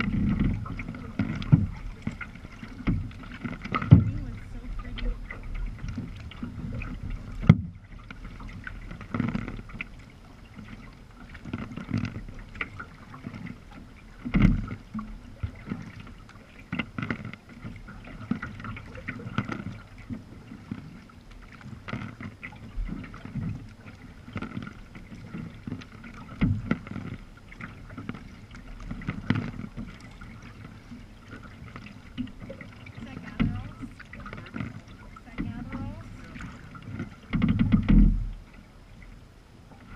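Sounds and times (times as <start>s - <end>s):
paddle strokes splashing: 0.0s - 39.9s
water washing along hull: 0.0s - 39.9s.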